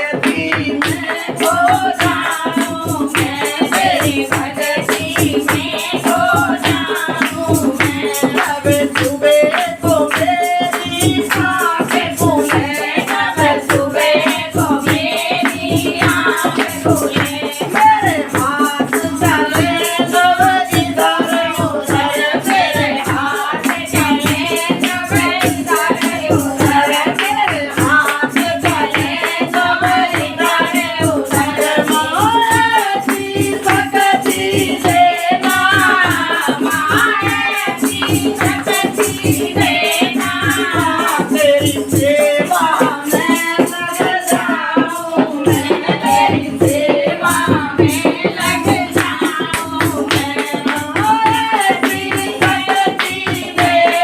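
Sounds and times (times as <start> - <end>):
hand percussion beat: 0.0 - 54.0
rattling shakers: 0.0 - 54.0
woman singing devotional song: 0.0 - 54.0.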